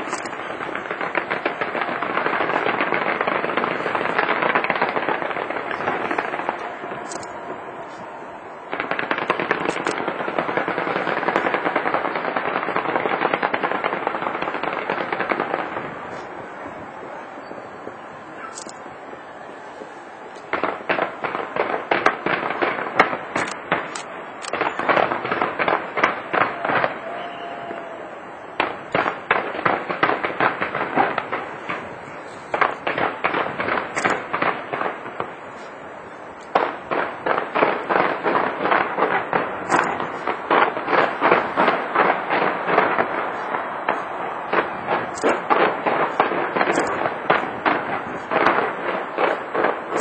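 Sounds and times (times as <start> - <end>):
fireworks bangs: 0.0 - 50.0
steady background din: 0.0 - 50.0.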